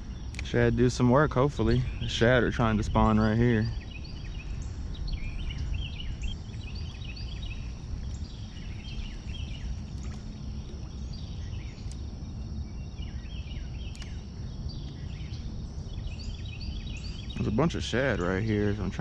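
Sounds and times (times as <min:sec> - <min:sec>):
low outdoor rumble: 0:00.0 - 0:19.0
songbirds chirping: 0:00.0 - 0:19.0.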